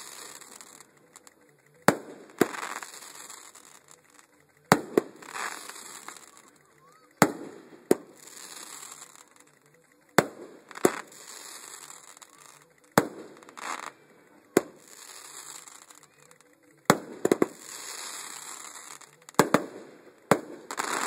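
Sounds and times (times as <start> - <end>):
firework crackling hiss: 0.0 - 21.0
firework bangs: 1.8 - 6.6, 7.2 - 9.4, 10.2 - 16.2, 16.9 - 21.0.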